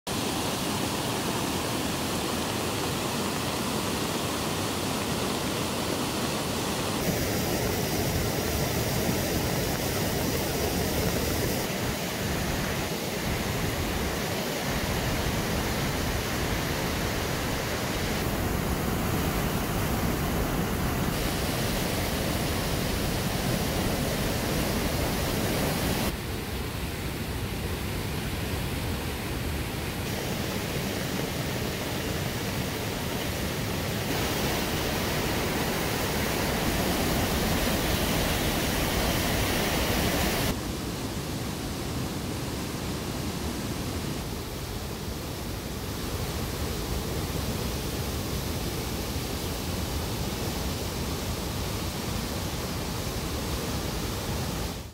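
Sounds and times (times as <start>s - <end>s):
stream rushing over rock: 0.1s - 54.9s.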